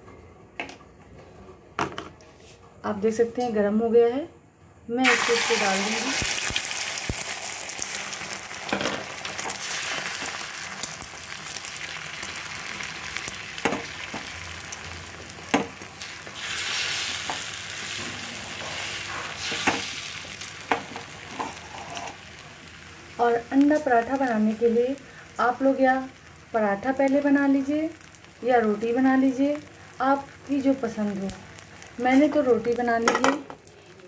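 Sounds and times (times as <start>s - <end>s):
egg sizzling in oil: 5.0s - 34.0s.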